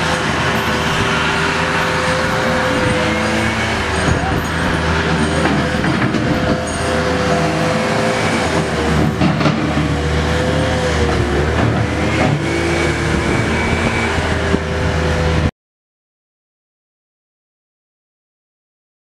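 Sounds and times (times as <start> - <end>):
heavy machine engine running: 0.0 - 15.5.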